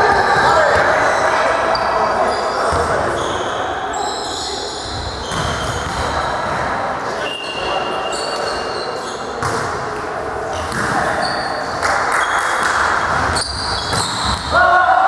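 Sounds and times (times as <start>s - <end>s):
crowd chatter echoing: 0.0s - 15.0s.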